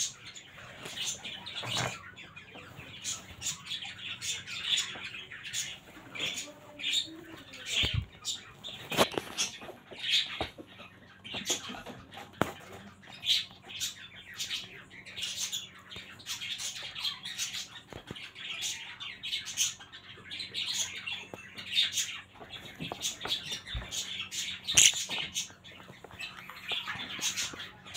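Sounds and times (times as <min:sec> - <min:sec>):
budgerigars chattering: 0:00.0 - 0:27.9.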